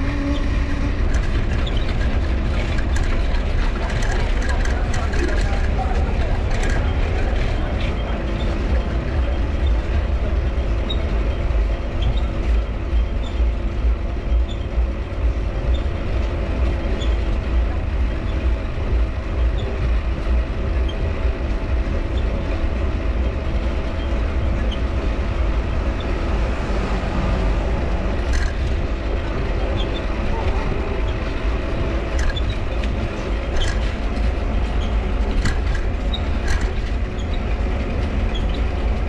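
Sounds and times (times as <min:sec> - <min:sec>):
bicycle cranks squeaking: 0:00.0 - 0:39.0
bicycle dynamo whirring: 0:00.0 - 0:39.0
wind and tyres rumbling: 0:00.0 - 0:39.0.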